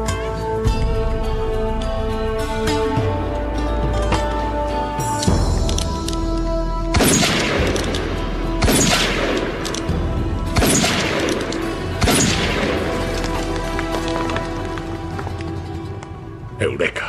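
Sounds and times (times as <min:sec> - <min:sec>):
background music held notes: 0:00.0 - 0:17.0.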